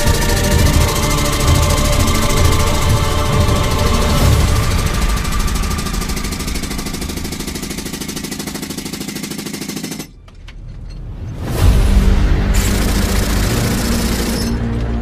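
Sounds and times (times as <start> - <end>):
machine running with rapid pulse: 0.0 - 10.1, 12.5 - 14.7.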